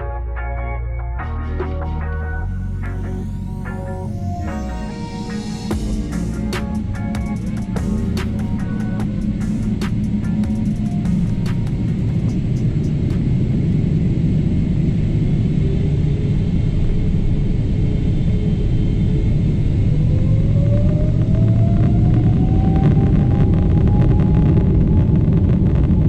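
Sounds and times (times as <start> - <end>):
thin rising engine tone: 1.5 - 24.3
jet engines rumbling in cabin: 2.9 - 26.0.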